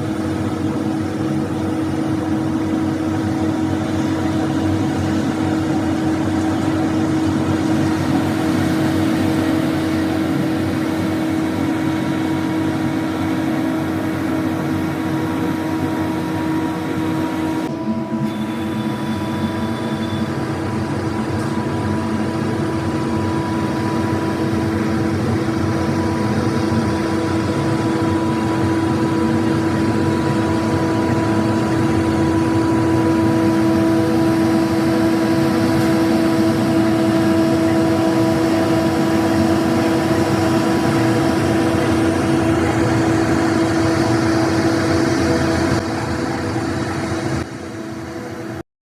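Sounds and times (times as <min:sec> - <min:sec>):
road sweeper machine drone: 0:00.0 - 0:48.6.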